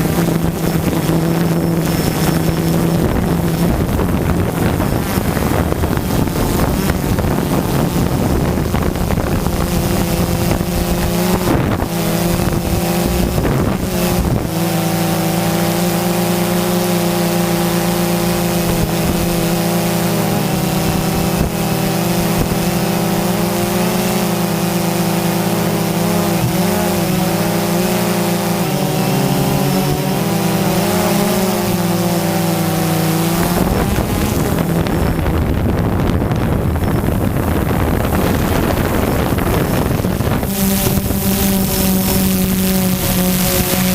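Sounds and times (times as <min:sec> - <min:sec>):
drone propellers humming: 0:00.0 - 0:43.9
wind rushing over microphone: 0:00.0 - 0:43.9.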